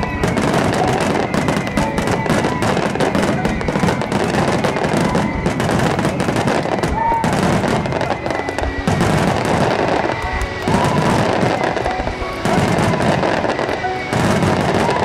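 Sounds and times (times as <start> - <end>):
crackling fireworks stars: 0.0 - 15.0
music playing: 0.0 - 15.0.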